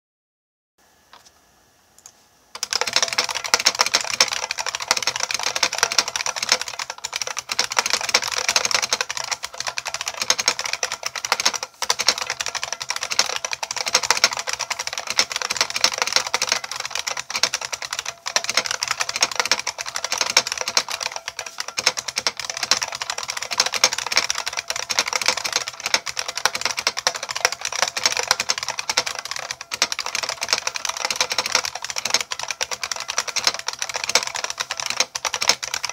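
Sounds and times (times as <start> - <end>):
fast mechanical keyboard typing: 2.6 - 35.9.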